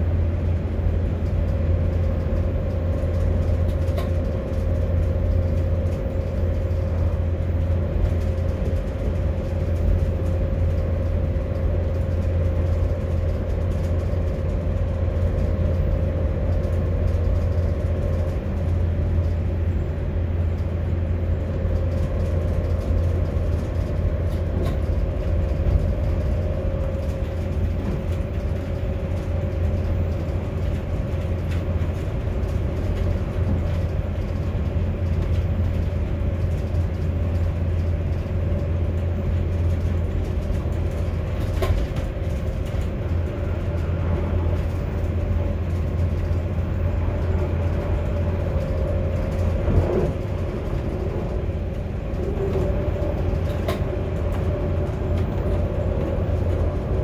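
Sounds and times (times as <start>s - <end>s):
constant hum: 0.0s - 57.0s
train low rumble: 0.0s - 57.0s.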